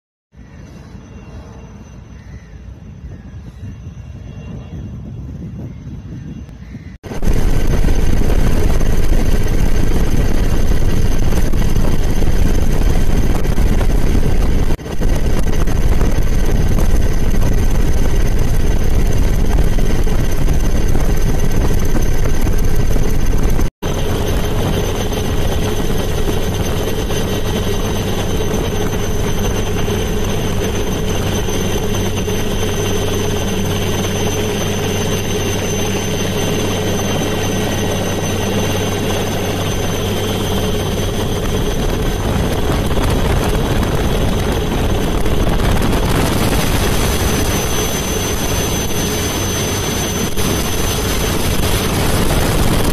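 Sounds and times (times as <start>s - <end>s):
helicopter engine and rotor drone: 0.4s - 52.9s.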